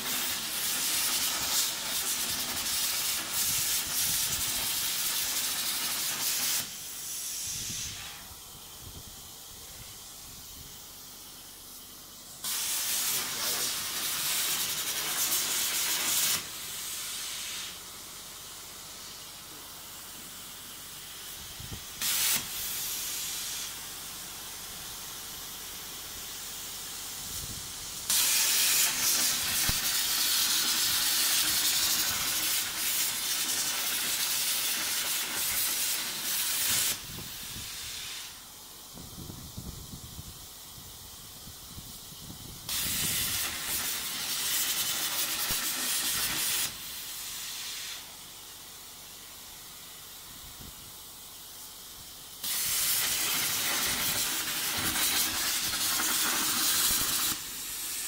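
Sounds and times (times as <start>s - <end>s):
plasma cutter arc hissing: 0.0s - 58.0s.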